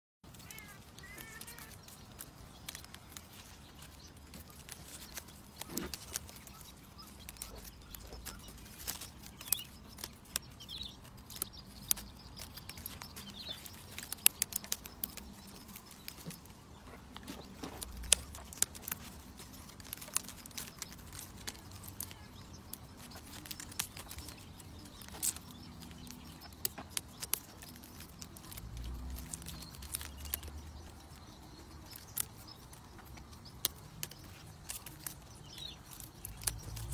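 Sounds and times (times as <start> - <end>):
dry leaves rustling and clicking: 0.3 - 36.9.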